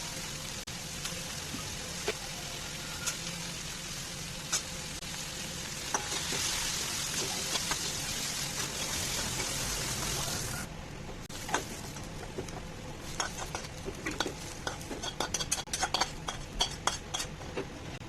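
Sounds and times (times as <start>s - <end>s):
food sizzling in hot oil: 0.0s - 10.7s, 11.3s - 17.3s.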